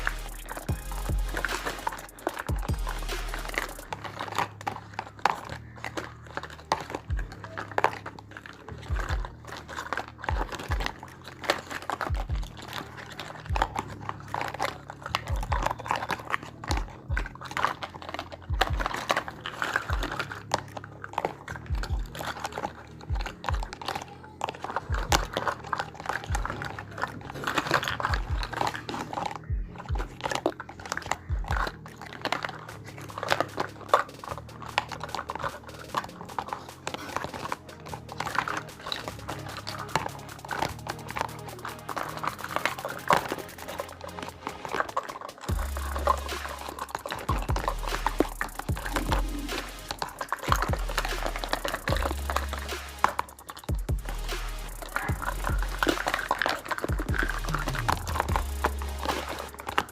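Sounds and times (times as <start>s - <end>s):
plastic packaging crinkling: 0.0s - 59.9s
toy pieces clicking and tapping: 0.0s - 59.9s.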